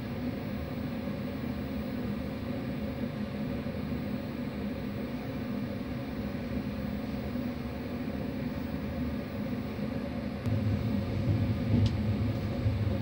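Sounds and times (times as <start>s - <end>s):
train coach rumble and hum: 0.0s - 13.0s.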